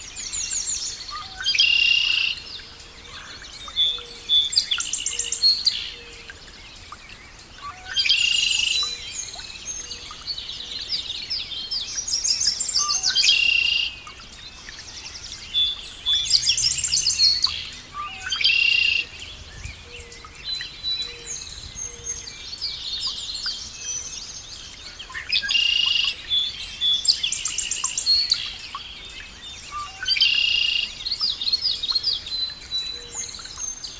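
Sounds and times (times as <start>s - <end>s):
songbird chirping and trilling: 0.0s - 33.9s.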